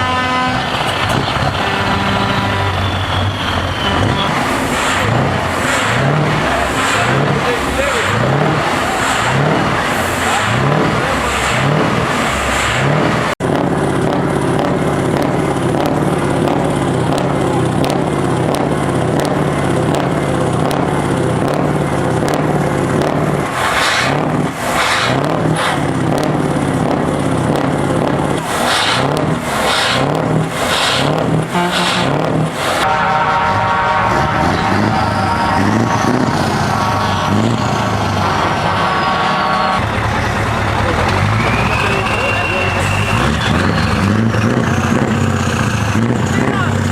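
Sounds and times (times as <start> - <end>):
truck diesel engines revving: 0.0 - 46.9.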